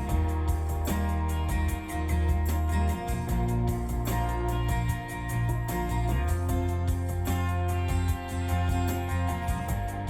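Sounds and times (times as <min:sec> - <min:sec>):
instrumental music with guitar and bass: 0:00.0 - 0:10.0.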